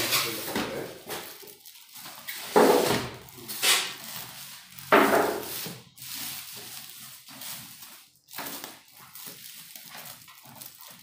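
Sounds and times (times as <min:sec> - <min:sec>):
plastic crinkling: 0:00.0 - 0:11.0
squeaking foam: 0:00.0 - 0:11.0.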